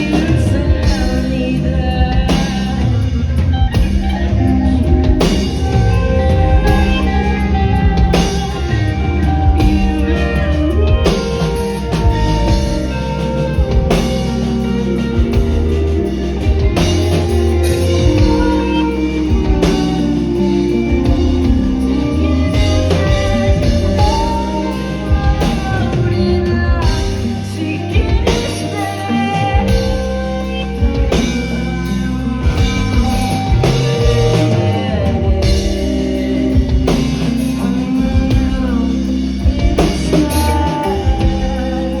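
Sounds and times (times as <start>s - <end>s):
rock song with singing: 0.0s - 42.0s.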